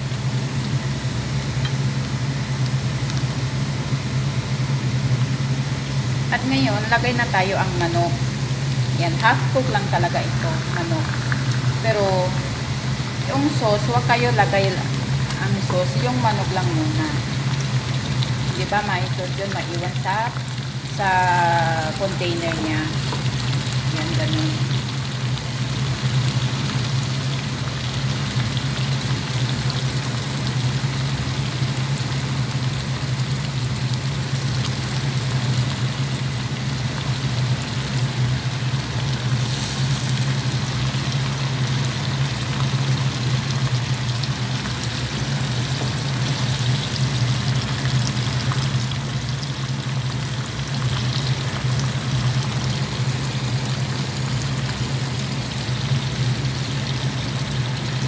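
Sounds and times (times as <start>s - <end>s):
chicken and onion sizzling: 0.0s - 58.0s
low machine hum: 0.0s - 58.0s.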